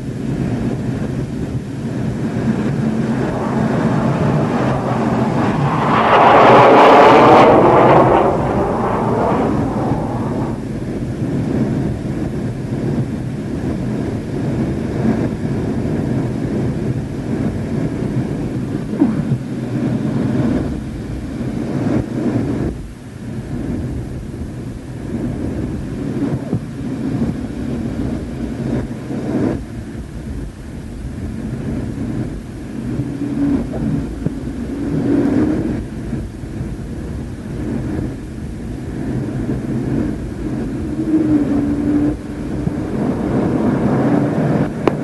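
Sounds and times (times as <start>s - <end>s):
jet engine rumble in cockpit: 0.0s - 45.0s.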